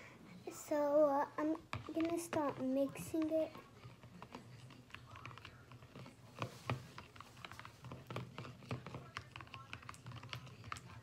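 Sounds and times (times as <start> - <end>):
metal spoon stirring in bowl: 1.4 - 11.0.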